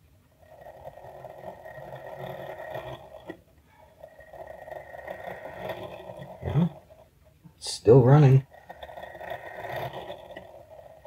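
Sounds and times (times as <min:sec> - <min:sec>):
clock gears whirring buzz: 0:00.0 - 0:07.2, 0:07.9 - 0:11.0.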